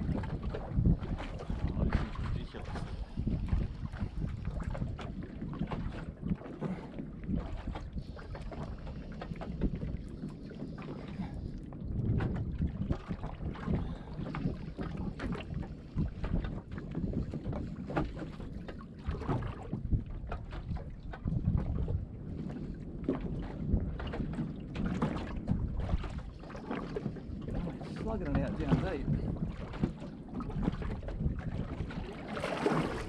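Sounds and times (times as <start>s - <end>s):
water slapping boat hull: 0.0s - 33.0s
wind buffeting microphone: 0.0s - 33.0s.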